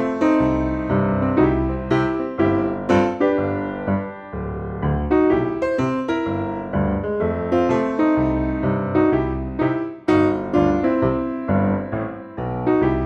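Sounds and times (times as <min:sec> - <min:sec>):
piano background music: 0:00.0 - 0:13.0.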